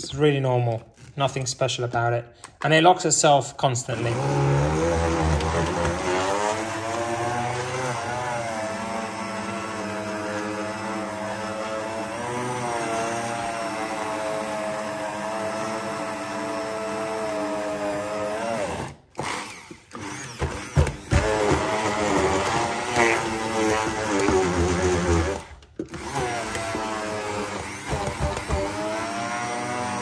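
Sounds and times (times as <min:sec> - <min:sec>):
hand blender motor whining: 0:03.9 - 0:30.0.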